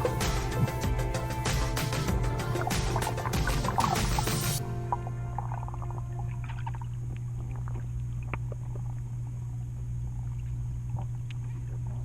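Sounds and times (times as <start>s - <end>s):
hot tub pump humming: 0.0s - 12.0s.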